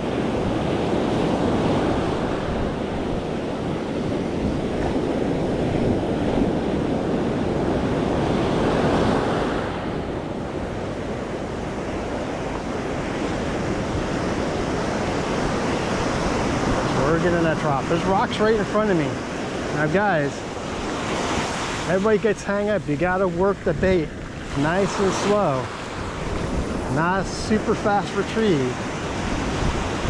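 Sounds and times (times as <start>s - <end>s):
ocean surf washing onto beach: 0.0s - 30.0s
wind buffeting microphone: 0.0s - 30.0s.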